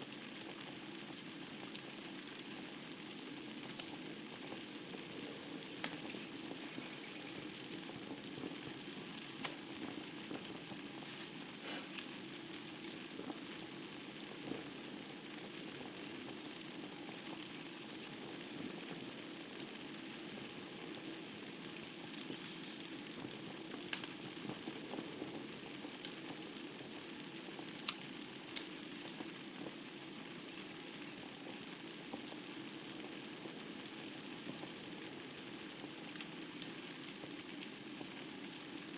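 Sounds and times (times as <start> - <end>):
fire crackling and popping: 0.0 - 38.9
wood fire hissing: 0.0 - 38.9.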